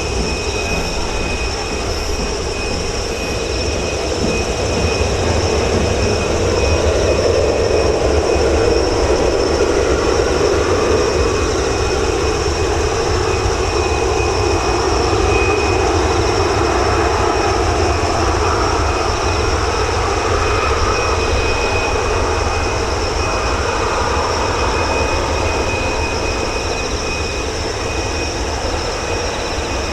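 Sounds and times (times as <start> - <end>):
jet engines rumbling with high whine: 0.0 - 29.9.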